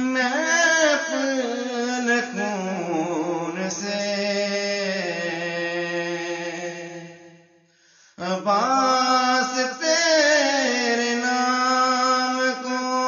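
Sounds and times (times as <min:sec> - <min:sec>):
man singing unaccompanied: 0:00.0 - 0:07.5, 0:08.2 - 0:13.0.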